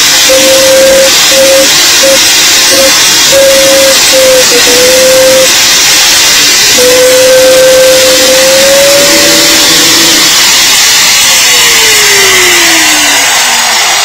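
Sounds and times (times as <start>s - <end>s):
angle grinder polishing wood: 0.0s - 13.9s.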